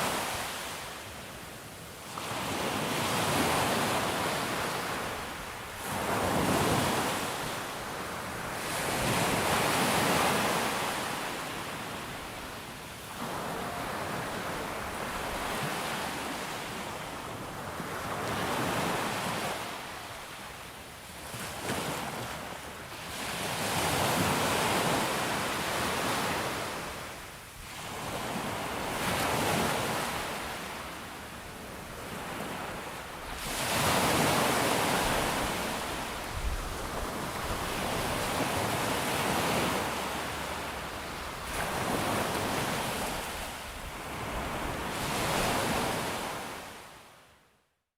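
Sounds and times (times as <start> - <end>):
ocean waves breaking on beach: 0.0 - 47.2.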